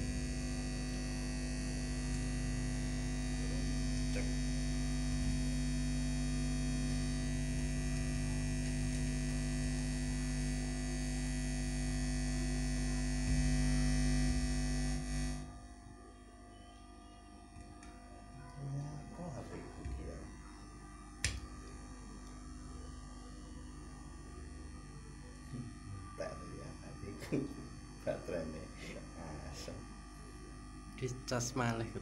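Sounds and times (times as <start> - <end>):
mains hum through speakers: 0.0 - 32.0.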